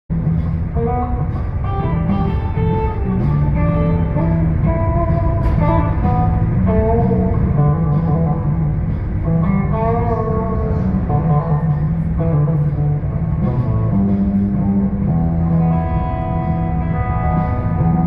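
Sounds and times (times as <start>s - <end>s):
guitar melody over low notes: 0.1s - 18.0s.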